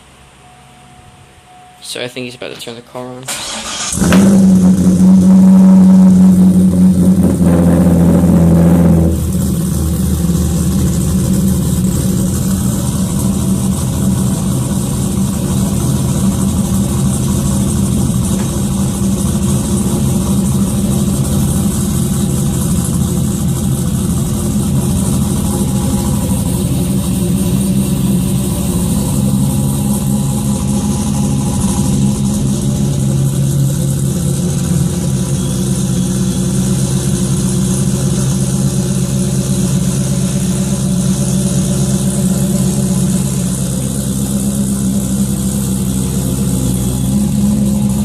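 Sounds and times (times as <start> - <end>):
car engine revving and idling: 3.3 - 48.0.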